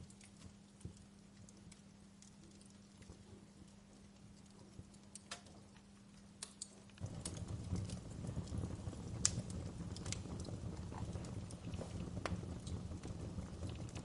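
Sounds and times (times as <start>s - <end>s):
low rushing of flames: 0.0s - 14.0s
wood fire crackling and popping: 0.0s - 14.0s.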